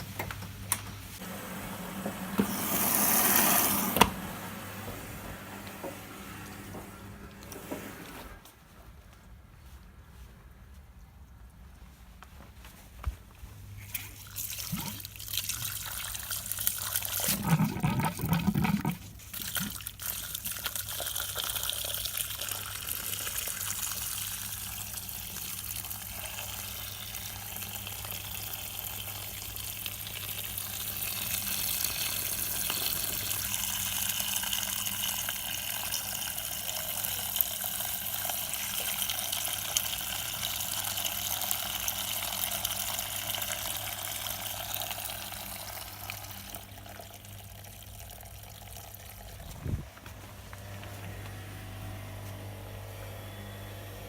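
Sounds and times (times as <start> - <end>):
washing machine hum: 0.0 - 8.5, 13.0 - 54.0.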